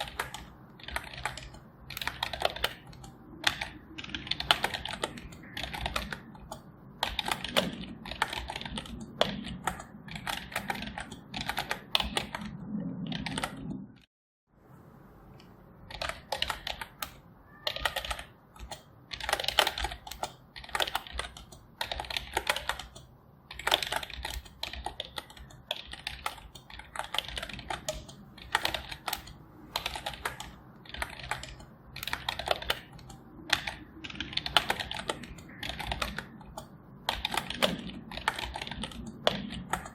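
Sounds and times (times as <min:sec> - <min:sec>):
typing on computer keyboard: 0:00.0 - 0:13.8, 0:15.9 - 0:39.9.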